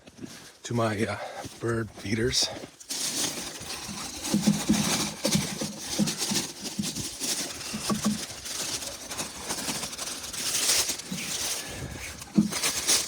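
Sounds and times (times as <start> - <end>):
footsteps crunching on snow: 0.0 - 13.0.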